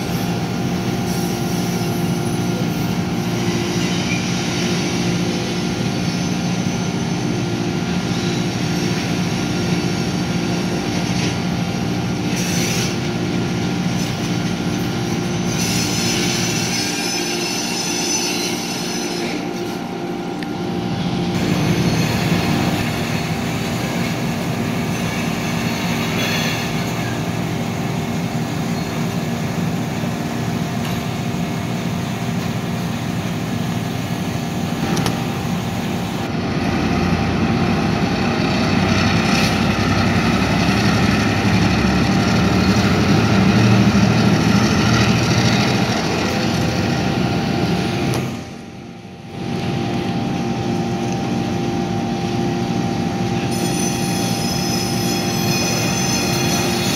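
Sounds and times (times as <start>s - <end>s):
diesel locomotive engines droning: 0.0s - 56.9s.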